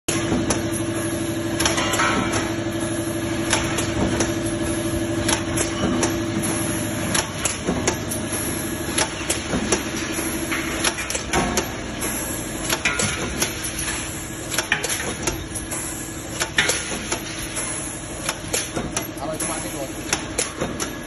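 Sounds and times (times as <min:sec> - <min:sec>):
machine hum: 0:00.1 - 0:21.0.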